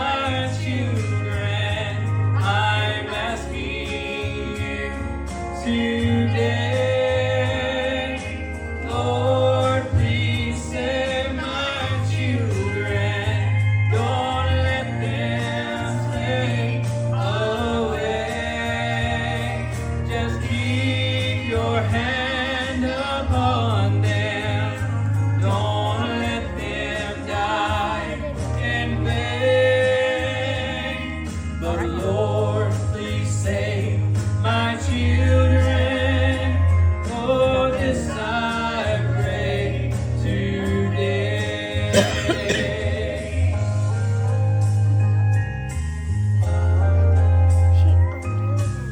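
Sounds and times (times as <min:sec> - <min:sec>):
man singing with vibrato: 0:00.0 - 0:43.6
instrumental accompaniment with bass: 0:00.0 - 0:48.9.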